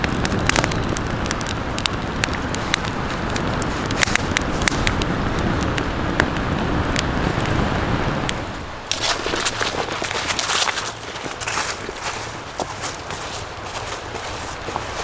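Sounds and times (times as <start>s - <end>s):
wood campfire crackling: 0.0s - 15.0s.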